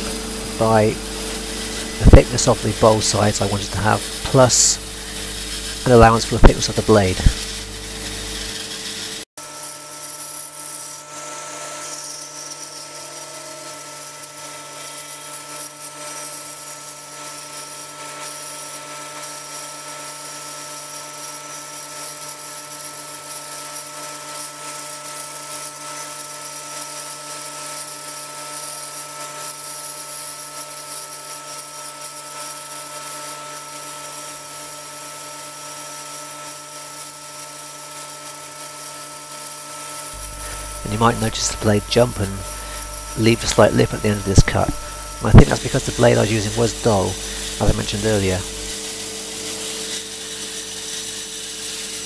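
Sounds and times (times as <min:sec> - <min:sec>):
bandsaw cutting wood: 0:00.0 - 0:52.0.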